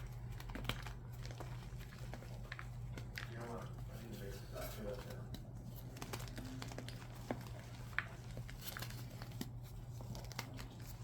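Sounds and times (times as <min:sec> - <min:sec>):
crinkling and crackling: 0:00.0 - 0:11.0.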